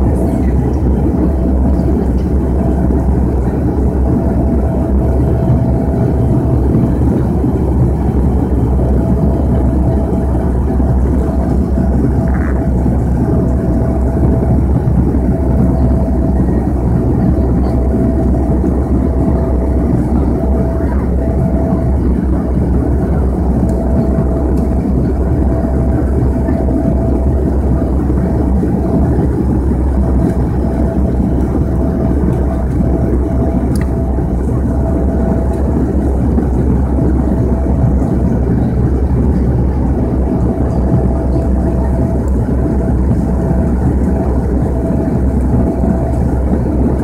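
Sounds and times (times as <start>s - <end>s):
airplane cabin engine drone: 0.0s - 47.0s.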